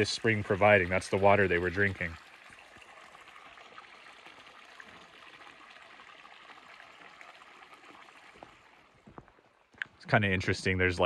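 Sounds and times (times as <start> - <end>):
stream running water: 0.0 - 11.0.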